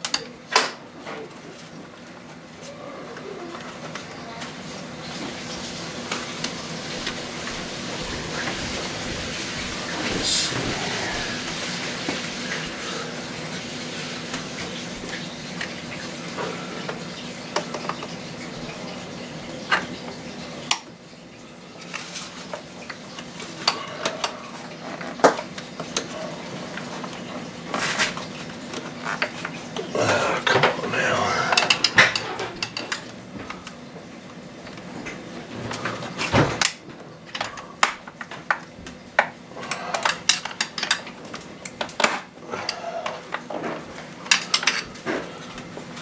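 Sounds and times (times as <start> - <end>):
steady background hum: 0.0 - 46.0.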